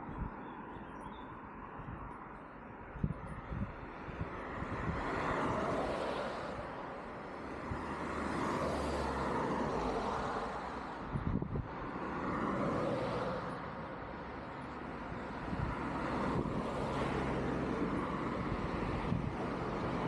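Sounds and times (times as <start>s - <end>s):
cars passing on street: 0.0s - 20.0s.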